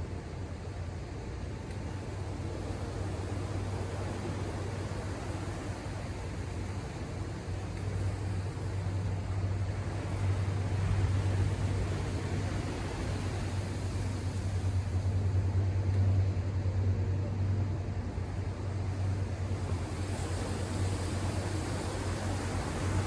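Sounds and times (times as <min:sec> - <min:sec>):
low steady hum: 0:00.0 - 0:23.0
ocean surf washing ashore: 0:02.2 - 0:16.8, 0:18.0 - 0:23.0.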